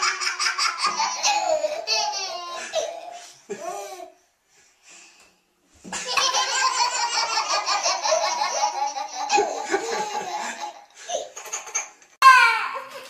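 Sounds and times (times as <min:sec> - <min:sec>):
toddlers laughing: 0:00.0 - 0:04.2, 0:06.0 - 0:13.0.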